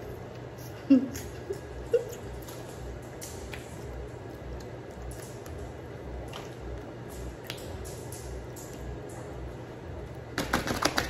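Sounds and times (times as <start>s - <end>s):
quiet chewing: 0.0s - 9.3s
low steady hum: 0.0s - 11.0s.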